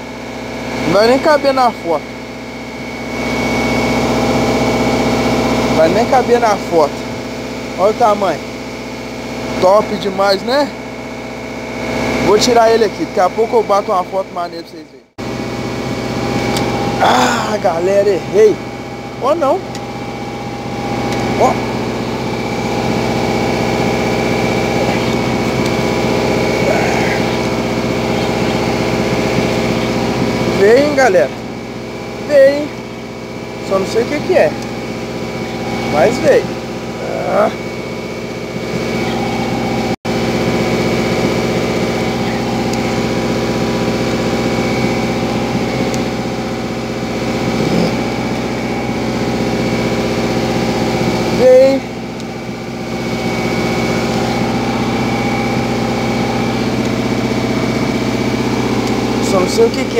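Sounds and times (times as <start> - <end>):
motor humming: 0.0 - 59.9
small engine idling: 0.0 - 59.9.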